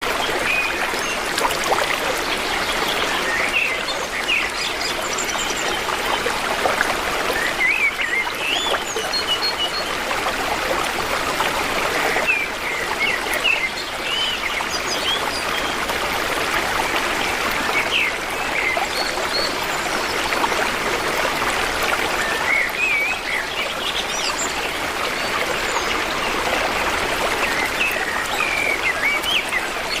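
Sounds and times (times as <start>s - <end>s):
stream of running water: 0.0s - 30.0s.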